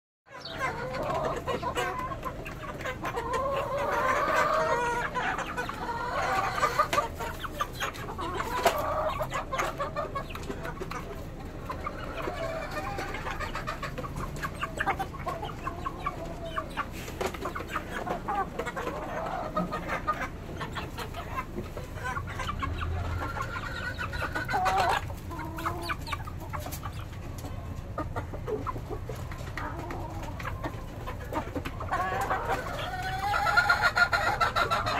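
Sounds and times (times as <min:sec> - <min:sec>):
chickens clucking: 0:00.3 - 0:34.9.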